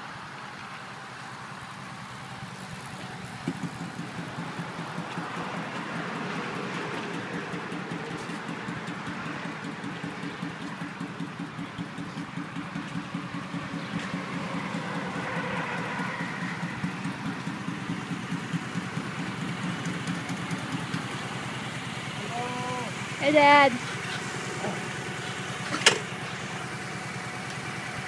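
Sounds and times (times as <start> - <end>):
motorcycle engine running at low speed: 0.0 - 28.0.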